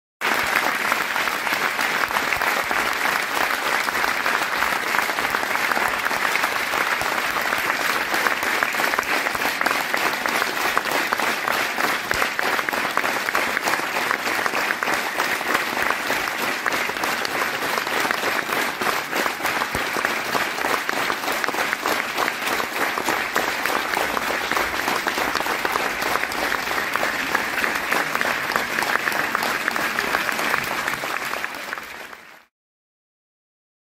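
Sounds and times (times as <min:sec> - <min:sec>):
audience applause: 0:00.2 - 0:32.5.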